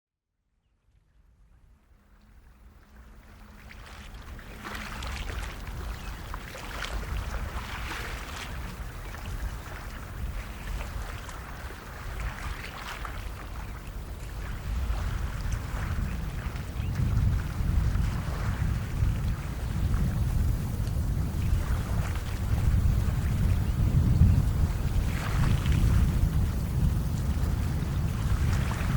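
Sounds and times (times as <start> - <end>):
wind: 0.3 - 28.9
rushing water: 2.1 - 28.9.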